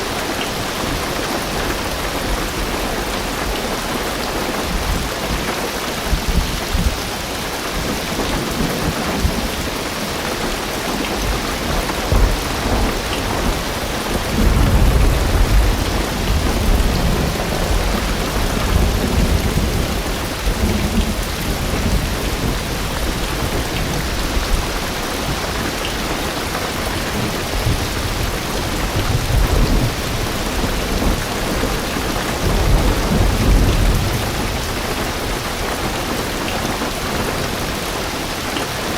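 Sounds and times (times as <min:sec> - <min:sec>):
heavy rain on car roof: 0:00.0 - 0:38.9
thunder rumbling: 0:00.1 - 0:37.6.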